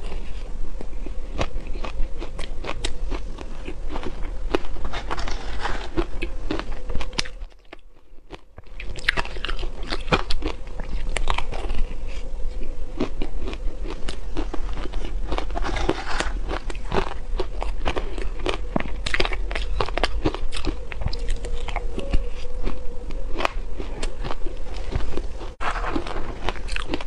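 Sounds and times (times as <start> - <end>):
crunching and chewing shaved ice: 0.0 - 27.0.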